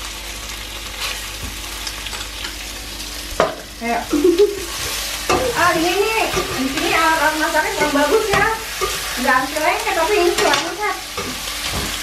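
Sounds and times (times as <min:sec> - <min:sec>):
pasta sizzling in a pot: 0:00.0 - 0:12.0.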